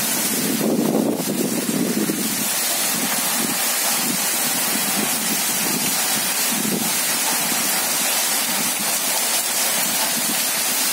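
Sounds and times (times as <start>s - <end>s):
steady rain falling: 0.0s - 10.9s.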